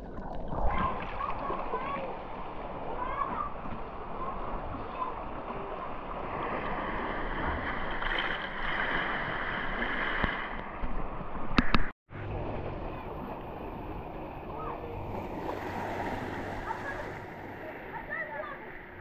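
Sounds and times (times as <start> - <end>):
sea water sloshing: 0.0 - 19.0.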